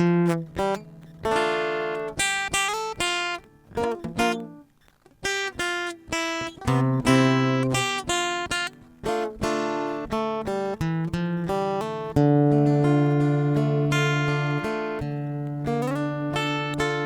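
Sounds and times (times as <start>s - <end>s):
guitar chords ringing: 0.0s - 17.0s.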